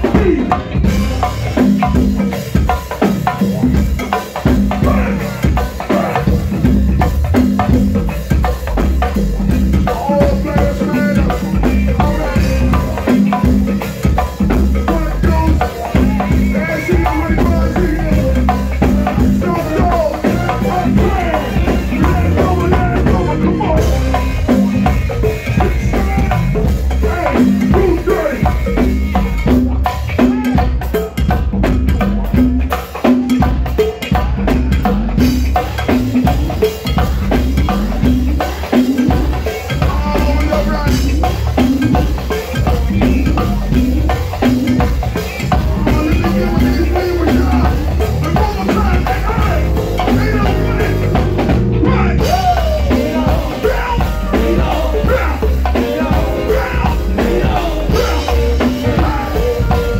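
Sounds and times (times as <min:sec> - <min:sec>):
congas and drum kit groove: 0:00.0 - 0:59.9
live band music: 0:00.0 - 0:59.9.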